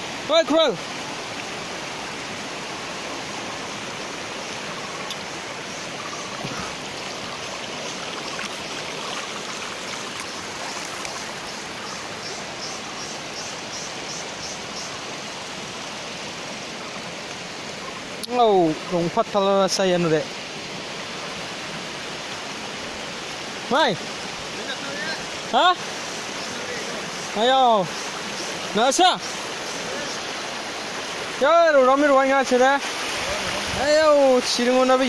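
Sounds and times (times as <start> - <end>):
river water rushing over rocks: 0.0 - 35.0.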